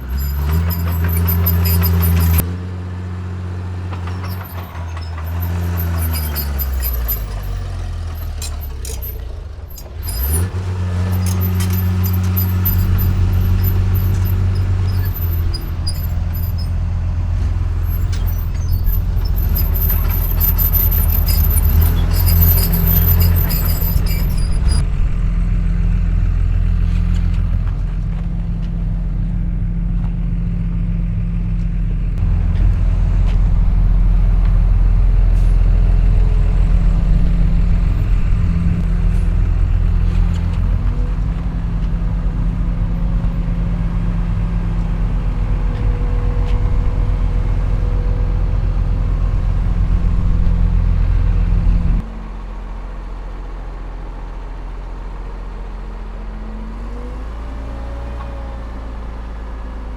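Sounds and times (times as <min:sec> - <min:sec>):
heavy machine diesel engine rumbling: 0:00.0 - 0:59.9.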